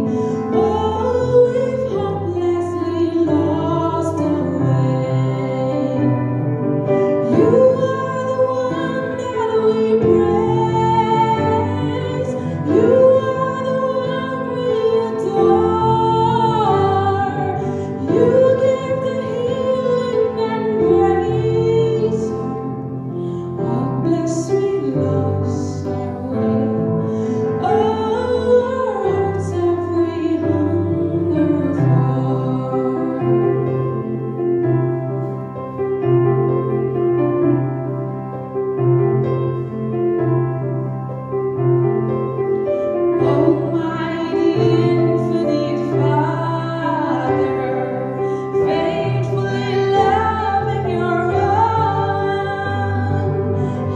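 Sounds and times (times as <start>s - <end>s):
woman singing: 0.0s - 34.2s, 42.9s - 53.9s.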